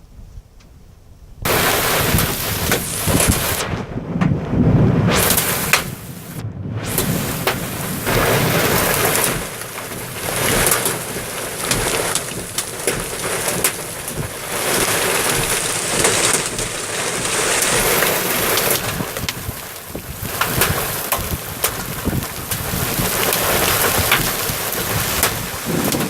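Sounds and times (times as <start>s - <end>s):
heavy rain pouring: 1.5s - 26.0s
raindrops tapping close by: 1.5s - 26.0s.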